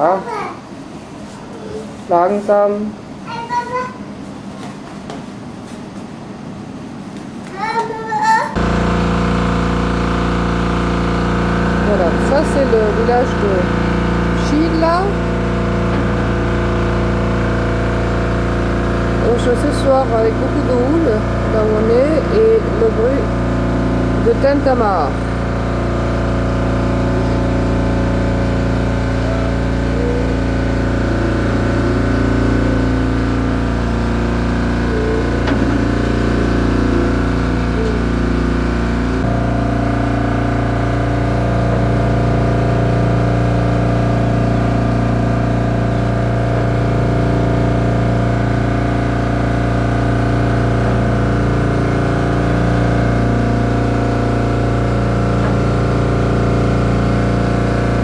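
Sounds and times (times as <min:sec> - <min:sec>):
motor droning: 0:08.5 - 0:58.0.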